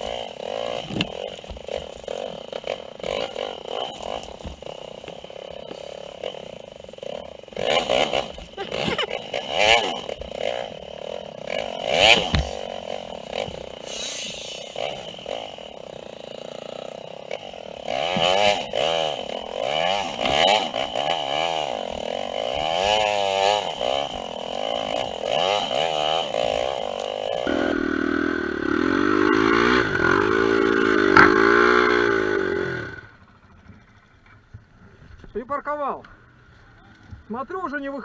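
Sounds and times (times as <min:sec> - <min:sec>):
dirt bike engine revving: 0:00.0 - 0:34.5.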